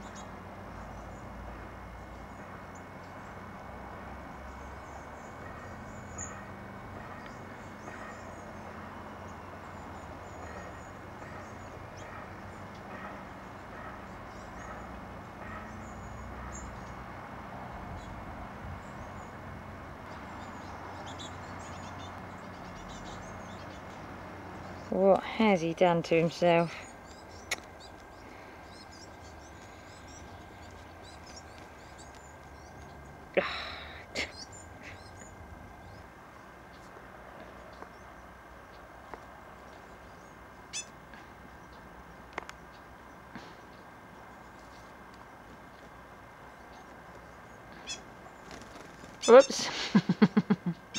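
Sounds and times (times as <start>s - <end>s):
small birds chirping: 0.0s - 3.5s, 4.2s - 17.1s, 17.7s - 50.9s
outdoor background noise: 0.0s - 50.9s.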